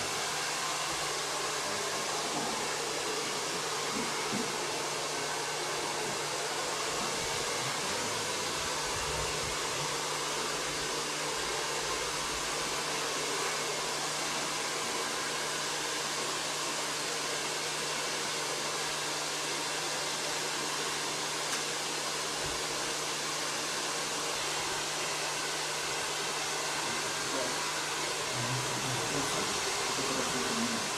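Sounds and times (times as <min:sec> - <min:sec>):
hair dryer blowing: 0:00.0 - 0:30.9.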